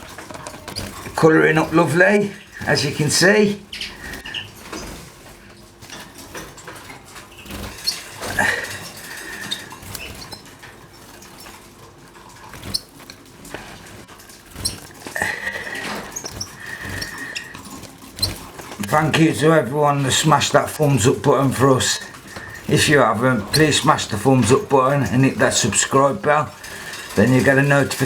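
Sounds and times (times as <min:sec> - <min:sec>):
birds scratching in cage: 0:00.0 - 0:28.0
finches chirping: 0:00.6 - 0:28.0.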